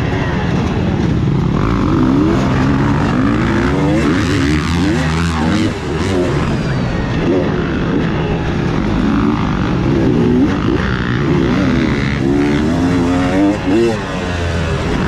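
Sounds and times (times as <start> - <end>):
dirt bike engine revving: 0.4 - 15.0.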